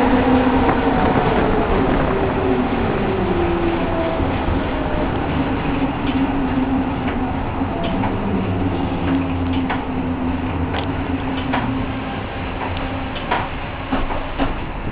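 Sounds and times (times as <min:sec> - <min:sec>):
tram motor hum: 0:00.0 - 0:14.9.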